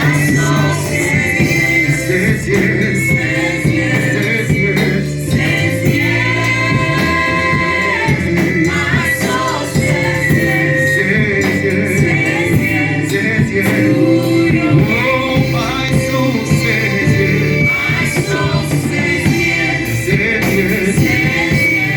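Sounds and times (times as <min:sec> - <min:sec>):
gospel music with singing: 0:00.0 - 0:21.9.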